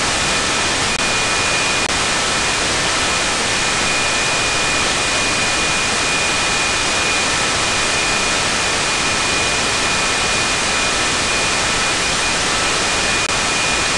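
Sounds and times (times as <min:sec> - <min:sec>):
radio receiver hiss: 0:00.0 - 0:13.9.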